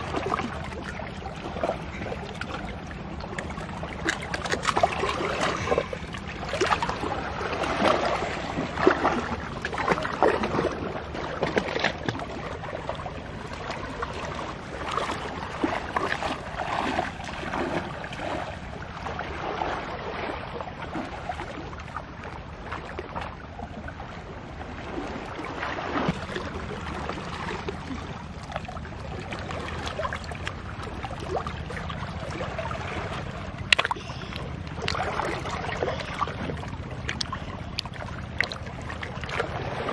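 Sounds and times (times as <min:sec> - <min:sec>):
seawater sloshing around rocks: 0:00.0 - 0:39.9.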